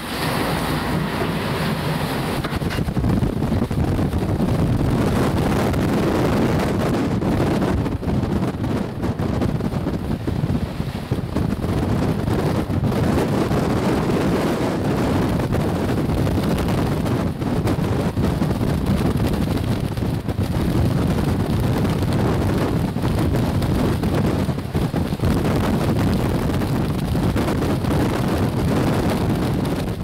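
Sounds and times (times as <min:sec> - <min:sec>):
storm wind buffeting microphone: 0:00.0 - 0:30.0.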